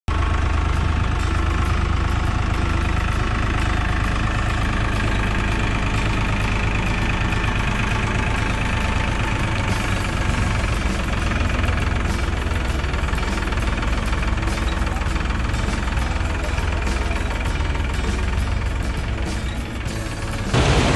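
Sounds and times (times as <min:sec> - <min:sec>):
tractor engine running: 0:00.1 - 0:20.9.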